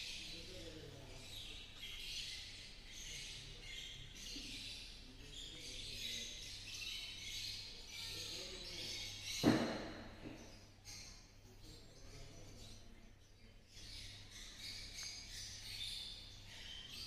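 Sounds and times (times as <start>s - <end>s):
faint high bird chirping: 0.0s - 17.0s.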